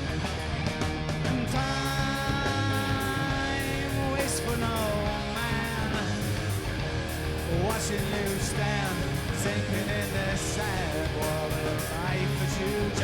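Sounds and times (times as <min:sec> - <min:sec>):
bass guitar: 0:00.0 - 0:13.0
drums: 0:00.0 - 0:13.0
electric lead guitar bending notes: 0:00.0 - 0:13.0
rhythm guitar: 0:00.0 - 0:13.0.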